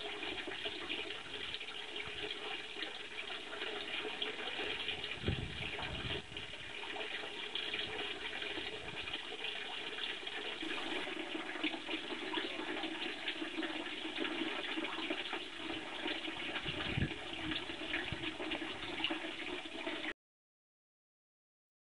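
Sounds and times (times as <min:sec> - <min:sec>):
koi splashing in pond: 0:00.0 - 0:20.2.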